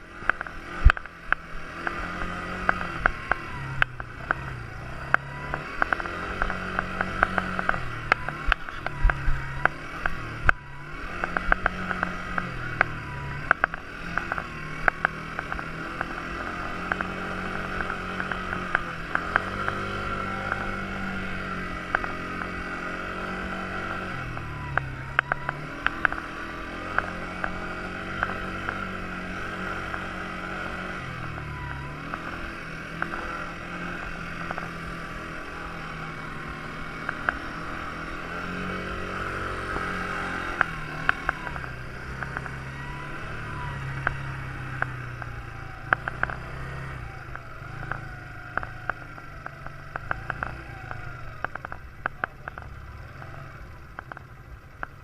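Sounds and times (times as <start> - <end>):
quad bike engine running: 0.0 - 55.0
sharp clicks and knocks: 0.2 - 4.4, 5.0 - 10.6, 11.2 - 55.0.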